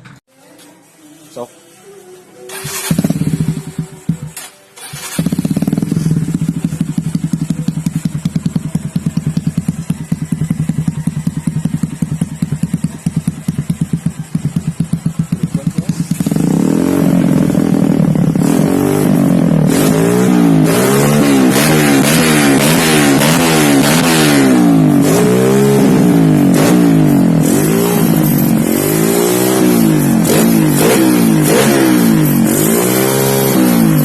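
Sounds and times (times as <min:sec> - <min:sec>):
engine revving: 0:02.5 - 0:34.0
motorcycle engine idling: 0:02.6 - 0:32.6.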